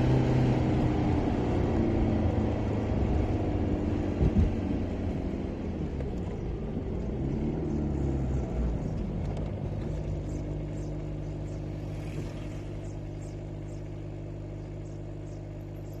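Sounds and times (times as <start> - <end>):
car engine revving down and idling: 0.0 - 16.0.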